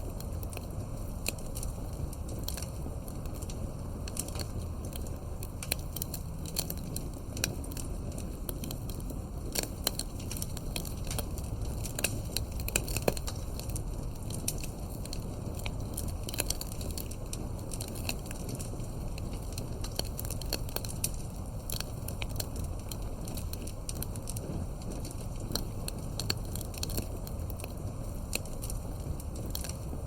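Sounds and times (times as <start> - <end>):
firewood crackling and popping: 0.0 - 30.0
low roar of flames: 0.0 - 30.0.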